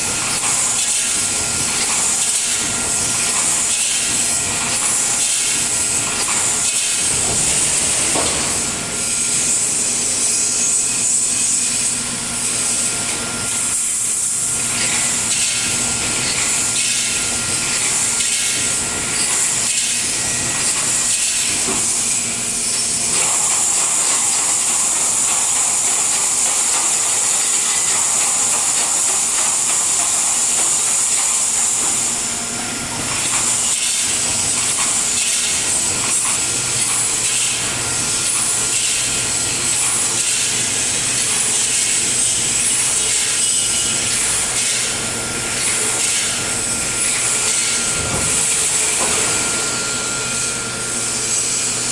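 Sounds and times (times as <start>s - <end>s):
welding machine hissing: 0.0s - 51.9s.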